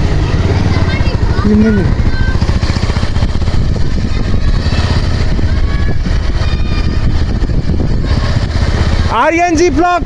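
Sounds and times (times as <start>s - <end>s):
motorcycle running: 0.0s - 10.0s
wind buffeting microphone: 0.0s - 10.0s.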